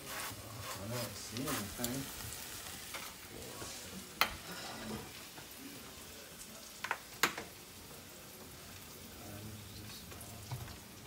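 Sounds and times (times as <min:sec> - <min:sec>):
eggs sizzling in a pan: 0:00.0 - 0:11.0.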